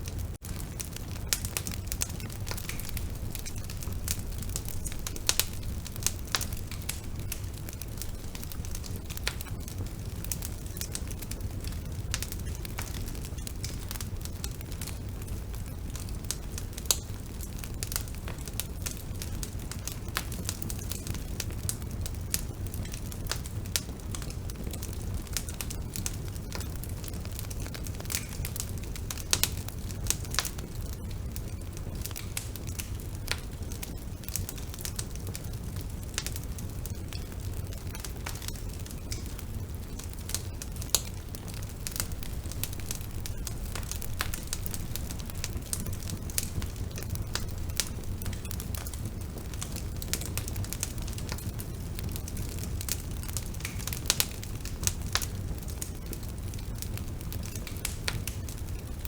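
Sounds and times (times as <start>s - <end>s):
burning wood crackling: 0.0s - 59.0s
low rumble of flame: 0.0s - 59.0s.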